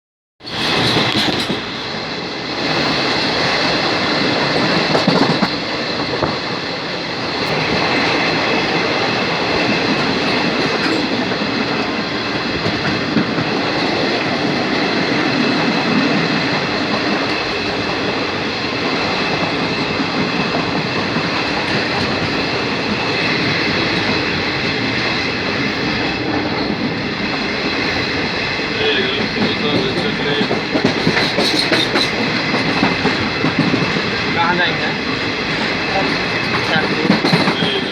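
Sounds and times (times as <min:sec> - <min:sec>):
train wheels rumbling over rails: 0:00.4 - 0:37.9.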